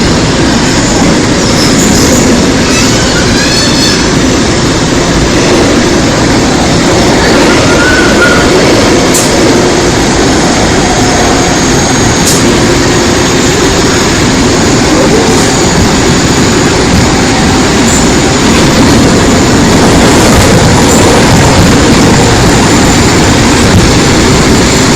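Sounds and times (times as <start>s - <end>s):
train interior rumble: 0.0s - 24.9s.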